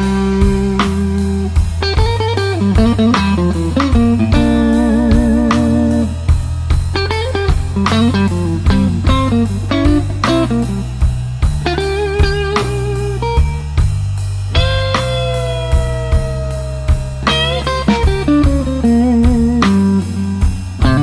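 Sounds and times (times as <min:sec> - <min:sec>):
electric guitar solo: 0:00.0 - 0:06.3, 0:06.9 - 0:10.9, 0:11.6 - 0:13.8, 0:14.5 - 0:21.0
slow electric blues band: 0:00.0 - 0:21.0.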